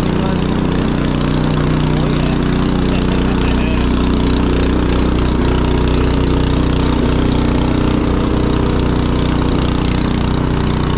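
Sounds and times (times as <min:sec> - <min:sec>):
snowblower engine running: 0:00.0 - 0:10.9.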